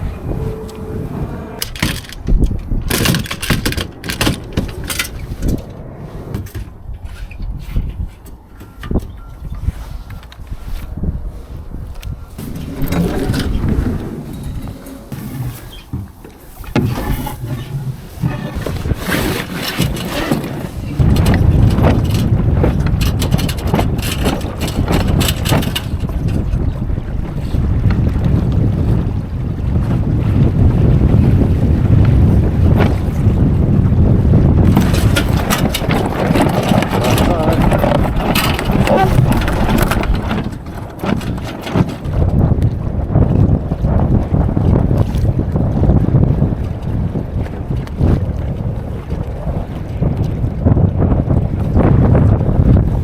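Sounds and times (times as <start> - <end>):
water splashing along hull: 0.0 - 53.0
wind buffeting microphone: 0.0 - 53.0.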